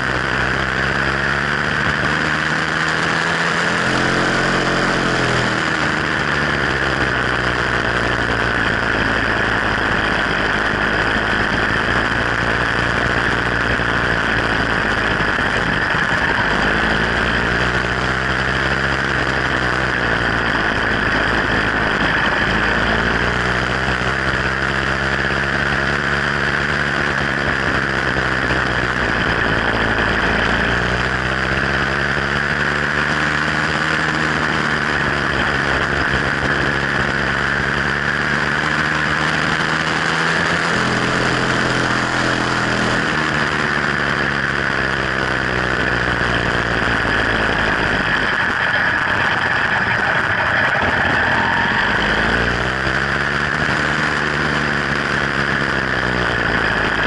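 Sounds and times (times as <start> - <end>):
motorized bicycle engine running: 0.0 - 57.0.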